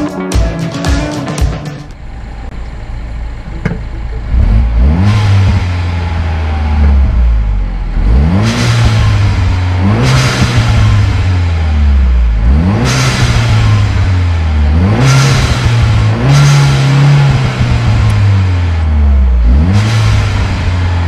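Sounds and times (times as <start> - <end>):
car engine accelerating hard: 1.9 - 21.0.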